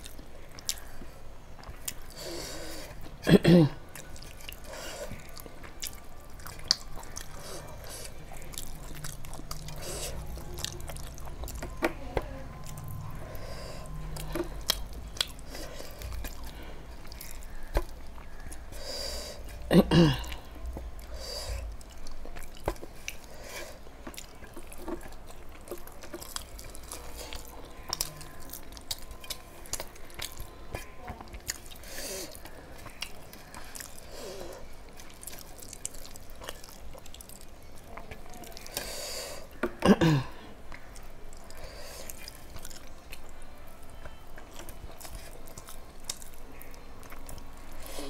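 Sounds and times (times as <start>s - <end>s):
person chewing food: 0.0s - 48.0s.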